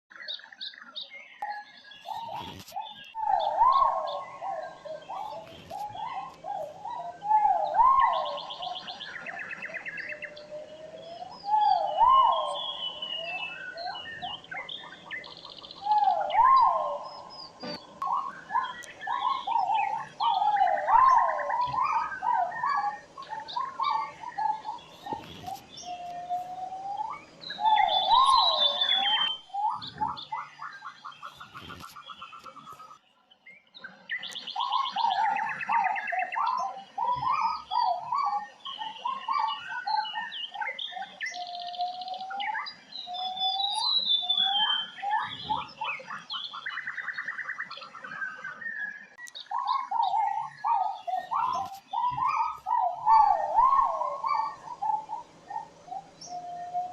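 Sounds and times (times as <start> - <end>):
birds singing: 0.1 - 56.9.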